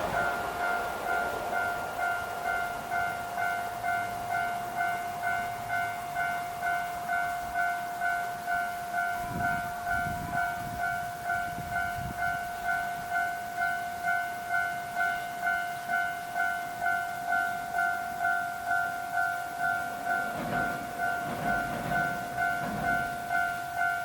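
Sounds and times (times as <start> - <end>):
level-crossing warning bell: 0.0 - 24.0.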